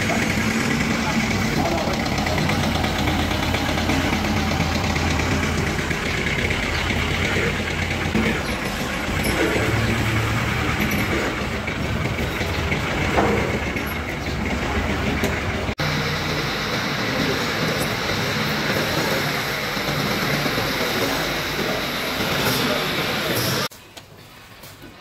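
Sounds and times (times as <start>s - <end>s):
vehicle engine running: 0.0s - 23.7s.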